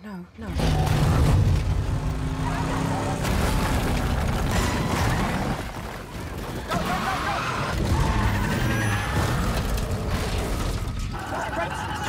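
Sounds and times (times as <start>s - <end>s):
bangs and knocks: 0.5s - 11.1s.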